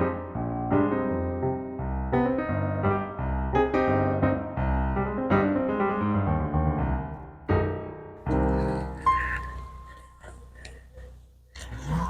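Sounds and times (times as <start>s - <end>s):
piano music: 0.0s - 10.6s.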